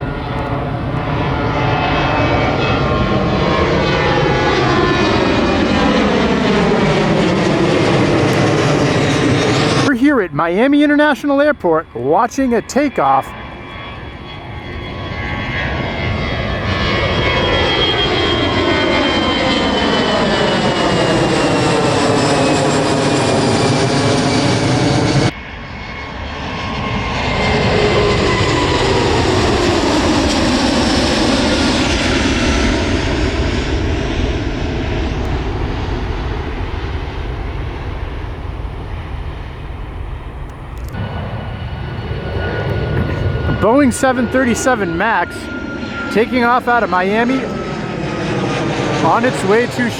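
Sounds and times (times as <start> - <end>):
jet engine roar at takeoff: 0.0 - 49.9.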